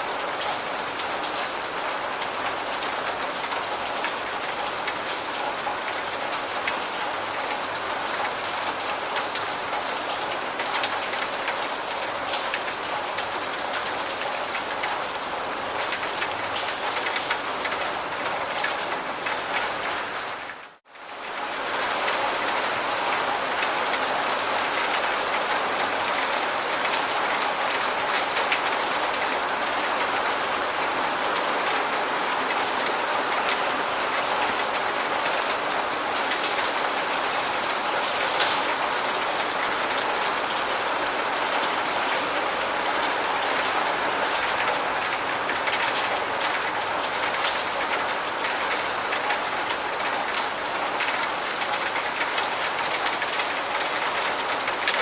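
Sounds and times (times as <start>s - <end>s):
dense rainfall: 0.0s - 55.0s.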